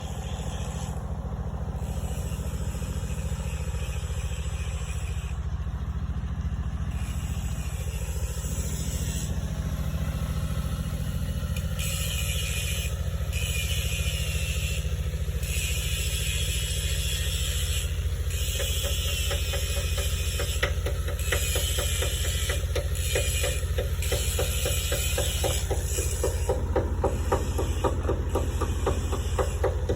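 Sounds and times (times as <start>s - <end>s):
engine running: 0.0s - 29.9s.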